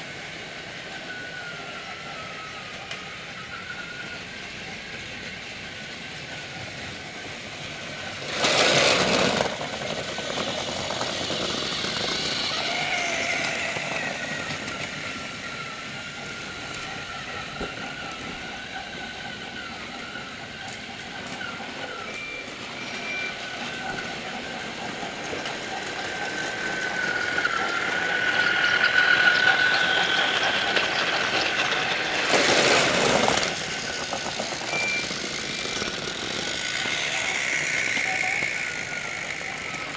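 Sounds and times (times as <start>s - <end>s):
toy train motor whining: 0.0s - 39.9s.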